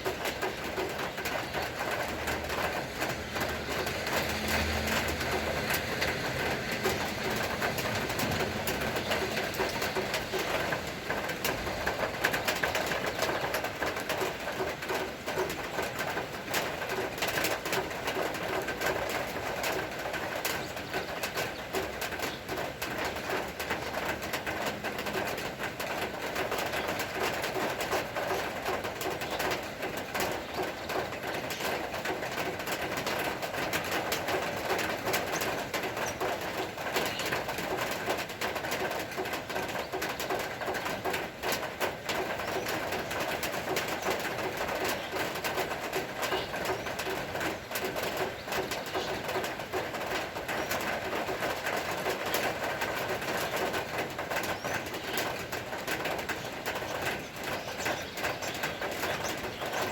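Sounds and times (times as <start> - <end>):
rain falling: 0.0 - 59.9
raindrops pattering on surfaces: 0.0 - 59.9.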